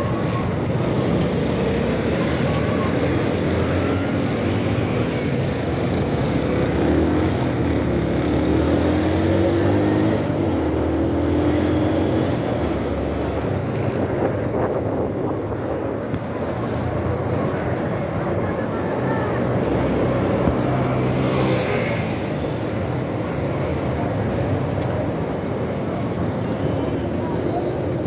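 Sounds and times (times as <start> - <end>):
road and wind noise: 0.0 - 28.0
street traffic: 0.0 - 28.0.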